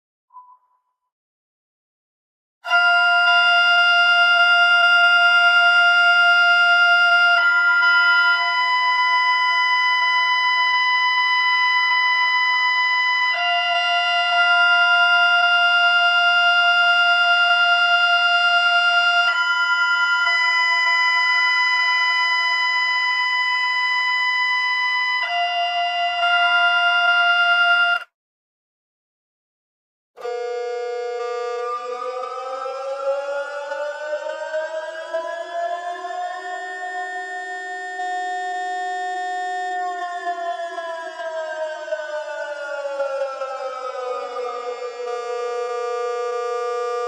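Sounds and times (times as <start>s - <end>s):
slowed alarm tone two pitches: 2.7s - 28.1s, 30.2s - 47.0s.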